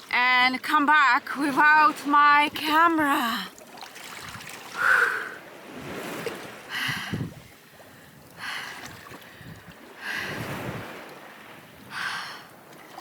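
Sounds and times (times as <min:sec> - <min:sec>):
sea water splashing: 0:00.0 - 0:13.0.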